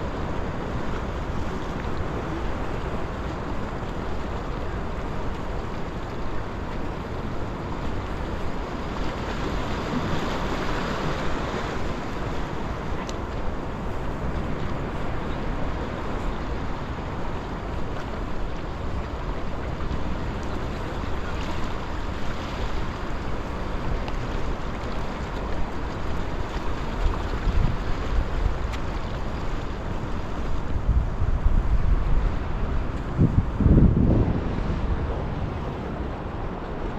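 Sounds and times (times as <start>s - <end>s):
surf washing against rocks: 0.0s - 36.9s
wind rumbling on microphone: 0.0s - 36.9s.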